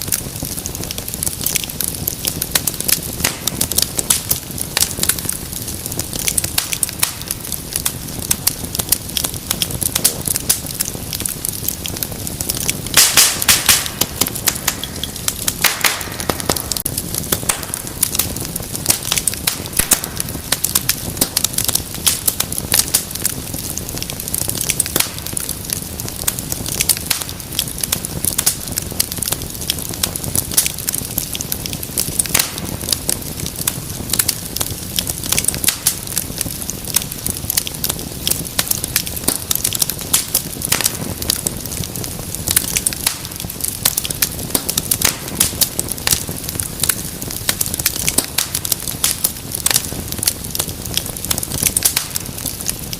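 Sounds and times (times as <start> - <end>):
fire popping and crackling: 0.0 - 52.9
low rumble of flames: 0.0 - 52.9.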